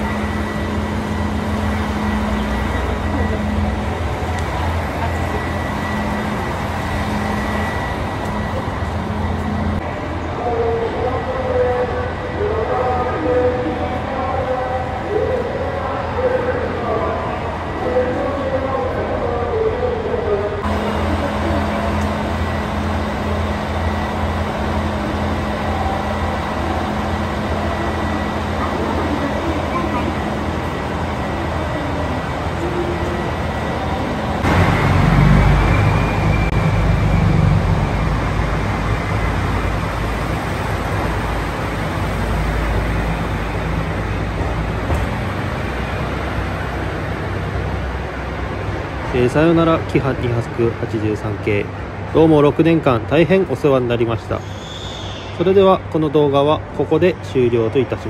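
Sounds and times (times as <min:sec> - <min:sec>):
constant hum: 0:00.0 - 0:58.0
diesel railcar engines idling: 0:00.0 - 0:58.0.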